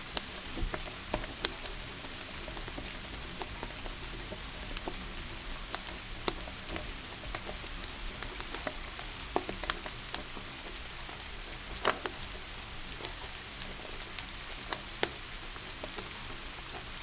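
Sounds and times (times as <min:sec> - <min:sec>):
steady rain hiss: 0:00.0 - 0:17.0
wood fire crackling: 0:00.0 - 0:17.0.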